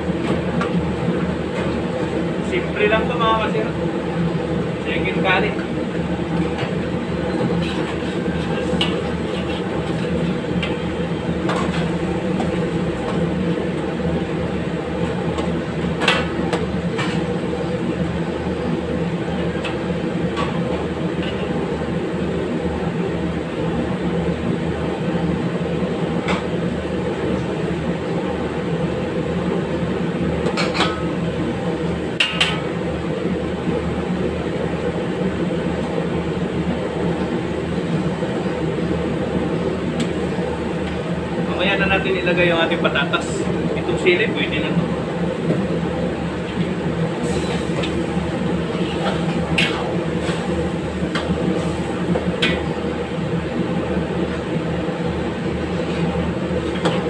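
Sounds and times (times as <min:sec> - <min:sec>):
gas range roaring: 0:00.0 - 0:57.0.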